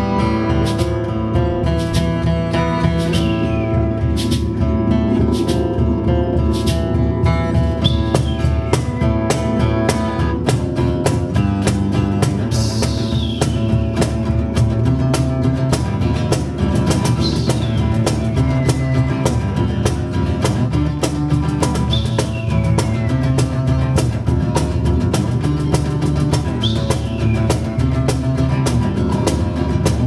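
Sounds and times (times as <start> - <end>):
acoustic guitar: 0.0 - 30.0
bongos playing: 0.4 - 30.0.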